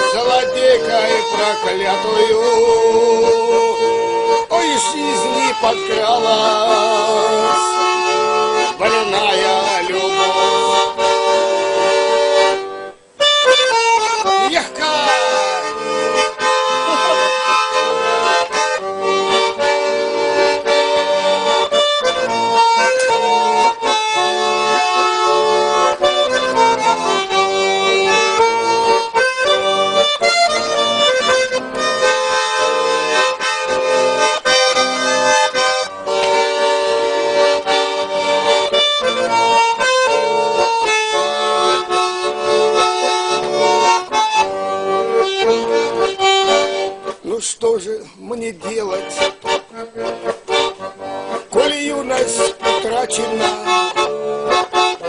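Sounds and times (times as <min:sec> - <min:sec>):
button accordion melody: 0:00.0 - 0:55.0.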